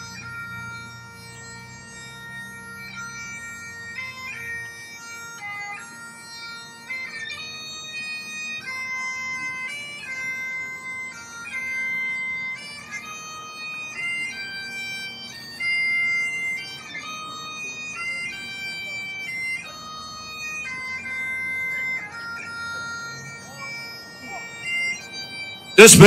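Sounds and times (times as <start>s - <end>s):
bagpipes playing slow melody: 0.0s - 26.0s.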